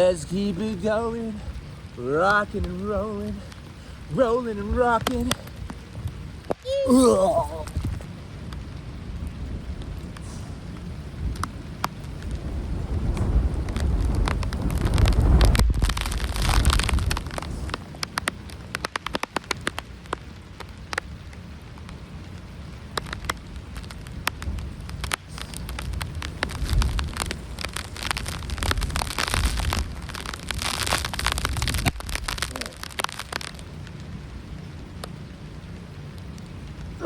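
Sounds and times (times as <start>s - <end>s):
rain falling: 0.0s - 37.0s
raindrops ticking close by: 0.0s - 37.0s.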